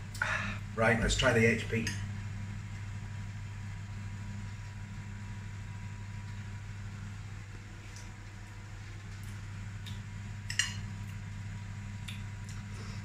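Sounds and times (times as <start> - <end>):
air fryer fan humming: 0.0 - 13.0.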